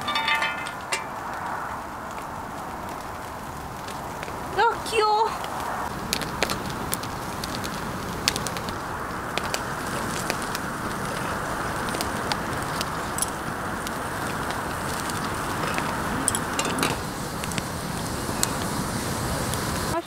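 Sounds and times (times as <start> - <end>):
fire ticks and pops: 0.0 - 20.0
meat sizzling on a grill: 1.2 - 20.0.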